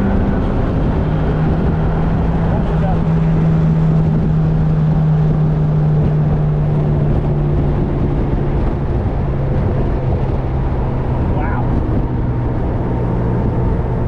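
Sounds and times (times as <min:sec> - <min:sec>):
car engine running: 0:00.0 - 0:14.0
road and wind rumble: 0:00.0 - 0:14.0.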